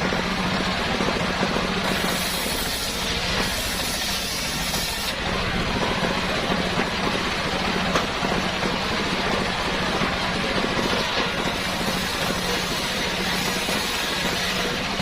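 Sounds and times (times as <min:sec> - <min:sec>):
circular saw running: 0:00.0 - 0:15.0.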